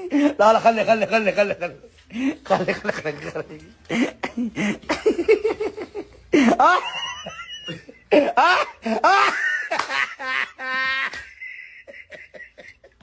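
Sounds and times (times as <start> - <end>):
person laughing hard: 2.5 - 13.0.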